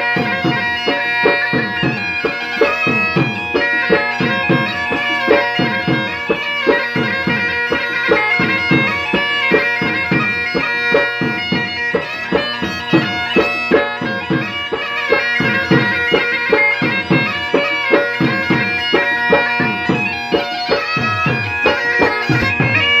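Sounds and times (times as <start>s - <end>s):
bagpipe melody with drones: 0.0s - 23.0s
dhol drum beat: 0.0s - 23.0s.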